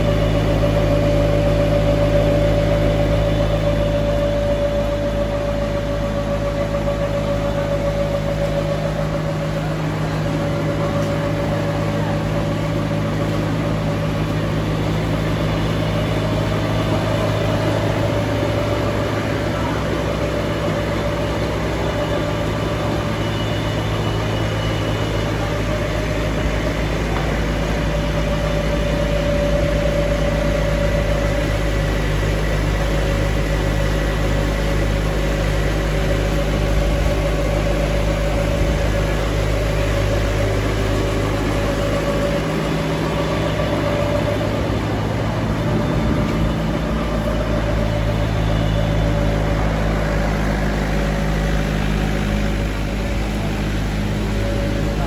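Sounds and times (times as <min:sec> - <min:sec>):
dryer machinery droning: 0:00.0 - 0:55.0.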